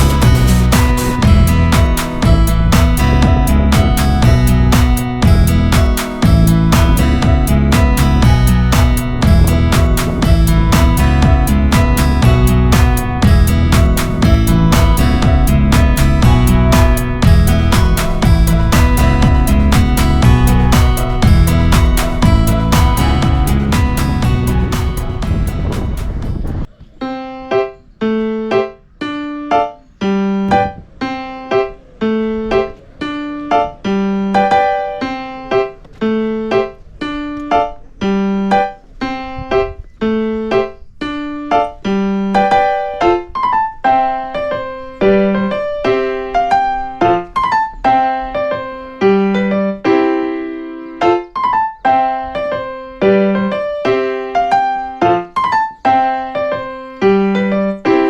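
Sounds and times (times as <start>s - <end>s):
gentle piano melody: 0.0s - 58.0s.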